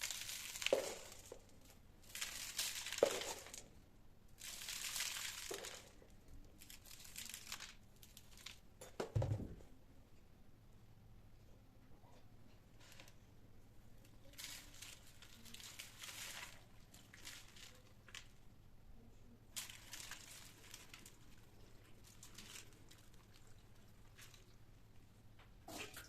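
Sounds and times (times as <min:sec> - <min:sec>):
crinkling and rustling: 0:00.0 - 0:09.7, 0:12.0 - 0:26.0.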